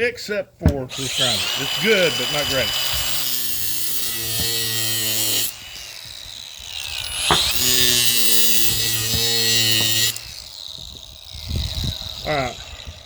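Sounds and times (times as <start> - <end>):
angle grinder running: 0.9 - 13.0.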